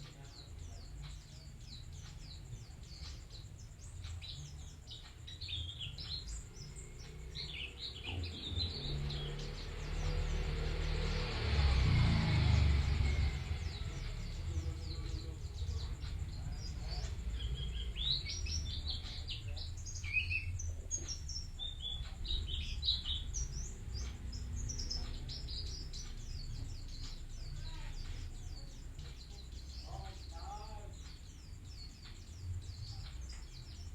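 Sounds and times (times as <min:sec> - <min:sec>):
bird twittering song: 0:00.0 - 0:33.9
low rumble: 0:00.0 - 0:33.9.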